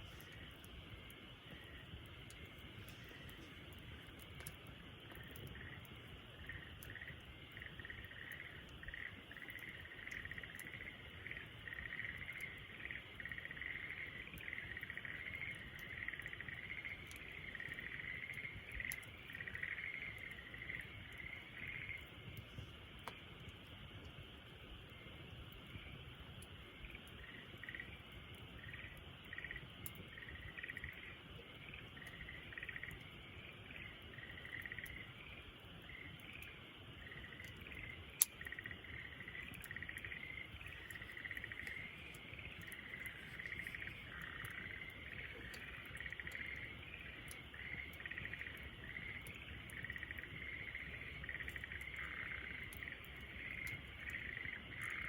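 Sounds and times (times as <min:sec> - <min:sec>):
night chorus of chirping calls: 0:00.0 - 0:23.8, 0:24.4 - 0:55.0
campfire crackling: 0:00.0 - 0:55.0.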